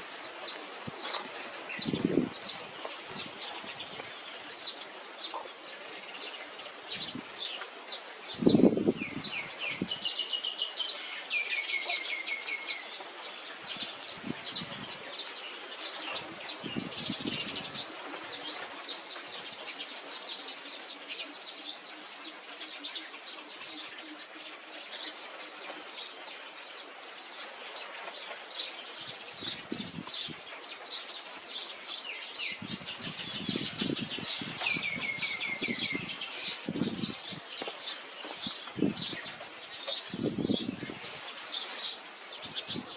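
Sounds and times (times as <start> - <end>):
birds chattering: 0.0 - 42.9.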